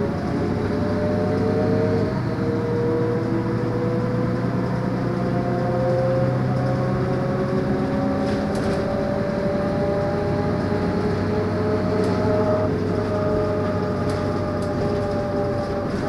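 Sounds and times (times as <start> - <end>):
bus drivetrain rumble and whine: 0.0 - 16.0.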